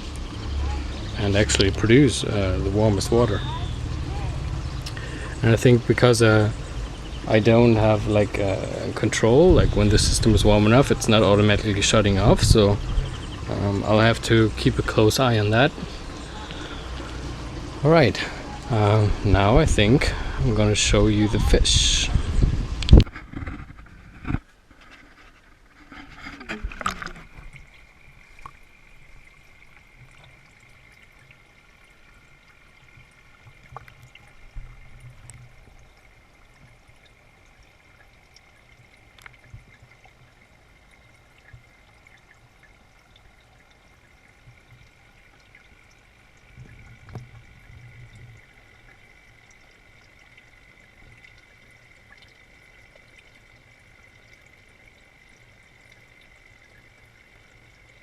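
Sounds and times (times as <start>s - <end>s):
water trickling into tank: 0.0s - 58.0s.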